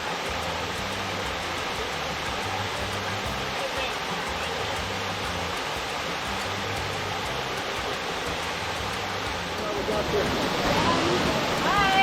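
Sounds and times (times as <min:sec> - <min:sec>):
water pouring down a waterfall: 0:00.0 - 0:12.0.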